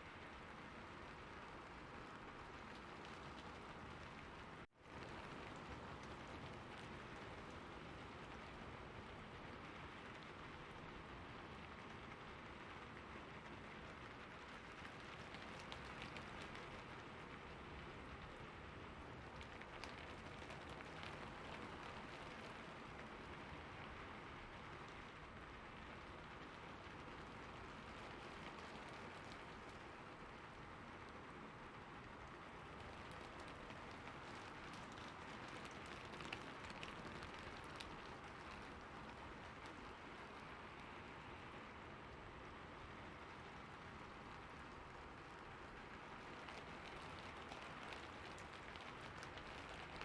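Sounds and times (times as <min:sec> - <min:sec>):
steady rainfall: 0:00.0 - 0:50.0.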